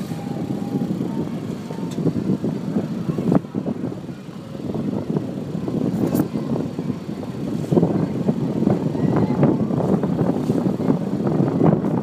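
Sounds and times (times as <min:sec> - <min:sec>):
low rumble aboard a boat: 0:00.0 - 0:12.0.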